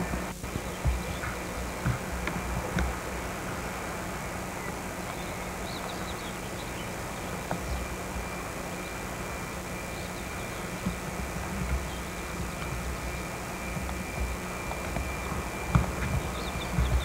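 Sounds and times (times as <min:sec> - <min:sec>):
camcorder tape hiss: 0:00.0 - 0:17.0
faint bird chirps: 0:00.0 - 0:17.0
low hum: 0:00.0 - 0:17.0.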